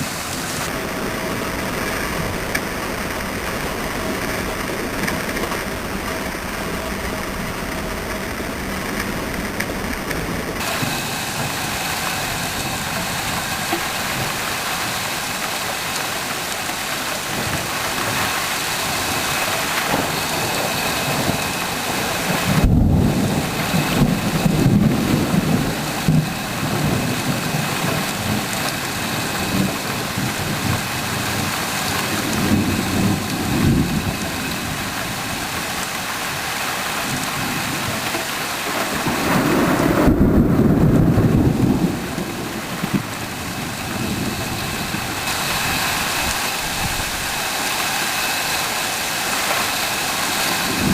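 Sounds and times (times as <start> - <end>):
steady rain: 0.0 - 50.9
thunder rumbling: 0.0 - 50.9.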